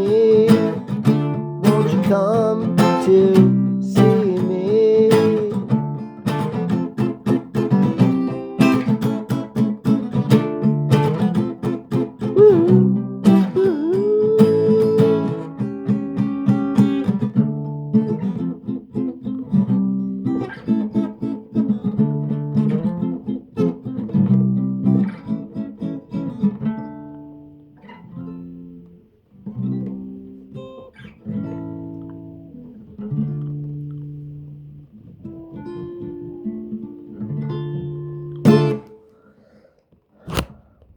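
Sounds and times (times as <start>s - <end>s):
acoustic guitar strumming chords: 0.0s - 39.1s.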